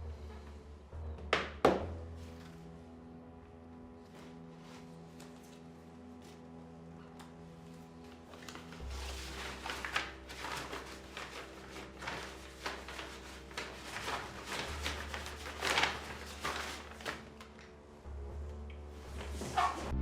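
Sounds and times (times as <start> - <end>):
low background music: 0.0 - 20.0.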